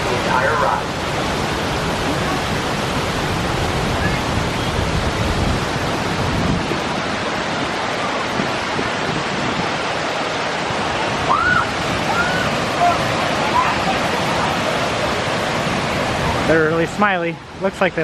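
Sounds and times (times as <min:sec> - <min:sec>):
water rushing and splashing: 0:00.0 - 0:18.0.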